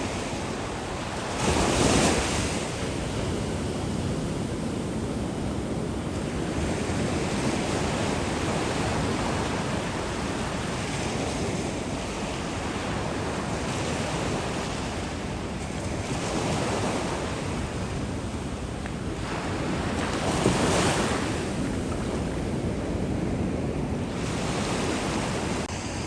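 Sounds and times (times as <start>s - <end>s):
ocean waves breaking on beach: 0.0s - 26.0s.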